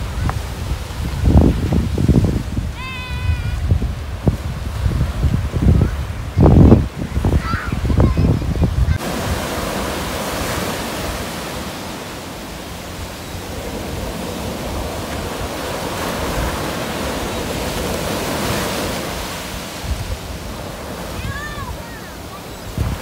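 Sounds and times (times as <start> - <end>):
ocean surf breaking on sand: 0.0 - 23.0.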